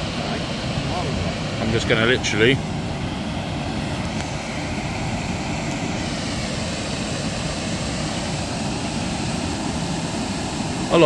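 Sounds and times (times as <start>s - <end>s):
water jetting roar: 0.0s - 11.0s.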